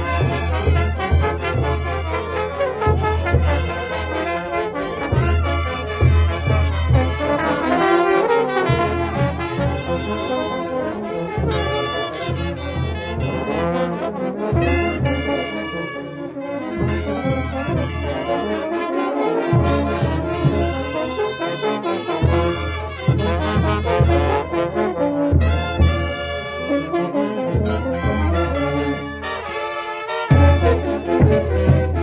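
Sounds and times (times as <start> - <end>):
brass band playing dance music: 0.0 - 32.0.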